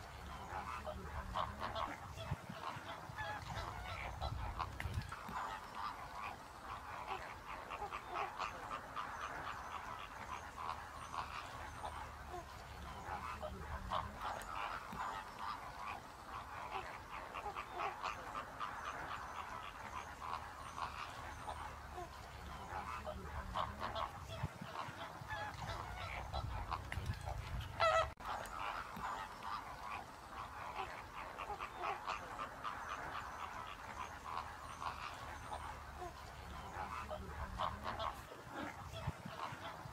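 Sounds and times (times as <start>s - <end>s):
flock of flamingos calling: 0.0s - 39.9s.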